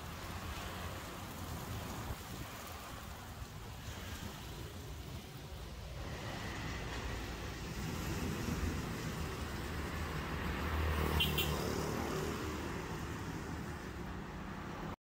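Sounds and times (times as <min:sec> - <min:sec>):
street traffic: 0:00.0 - 0:15.0
vehicle engine rumble: 0:00.0 - 0:15.0.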